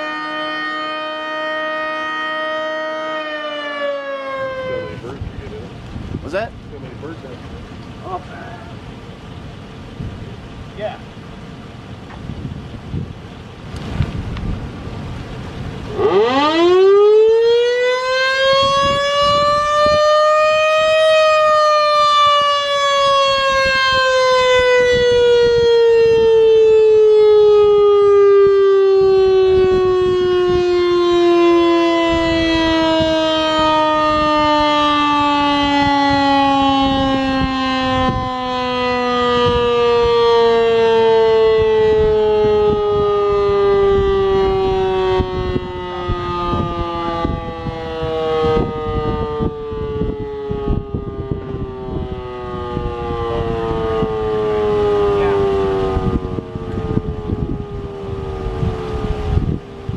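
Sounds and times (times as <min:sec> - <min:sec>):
warning siren wailing: 0:00.0 - 0:59.9.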